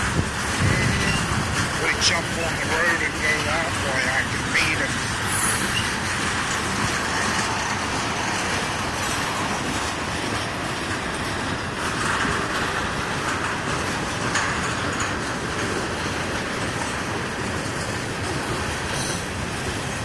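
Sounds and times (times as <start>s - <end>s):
freight train wheels rattling: 0.0s - 20.0s.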